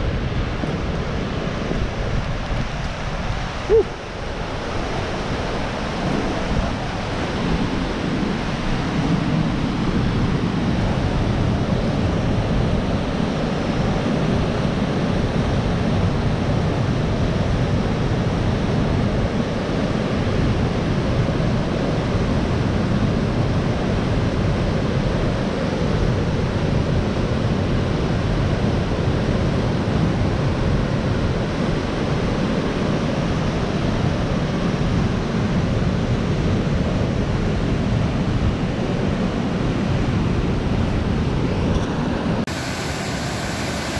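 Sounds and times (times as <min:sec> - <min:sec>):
waterfall and rapids rushing: 0:00.0 - 0:43.9.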